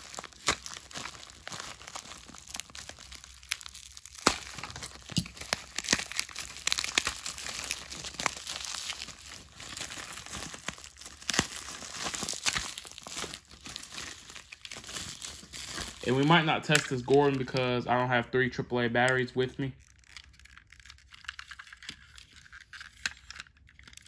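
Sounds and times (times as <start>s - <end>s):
packaging crinkling and rustling: 0.0s - 17.9s, 19.0s - 24.0s.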